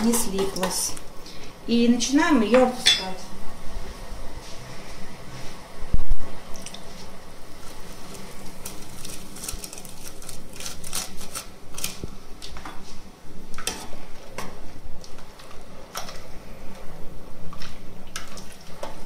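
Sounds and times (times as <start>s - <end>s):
water boiling in a pot: 0.0s - 2.5s, 3.2s - 19.0s.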